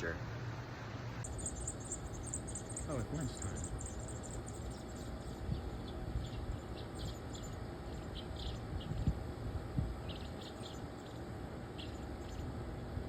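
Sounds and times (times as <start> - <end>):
low outdoor rumble: 0.0 - 13.0
bird chirps: 1.2 - 9.2, 9.9 - 12.5.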